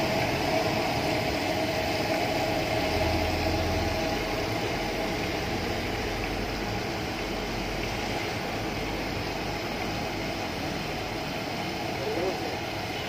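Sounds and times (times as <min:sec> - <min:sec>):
low steady rumble: 0:00.0 - 0:11.4
hot oil sizzling: 0:00.0 - 0:13.0.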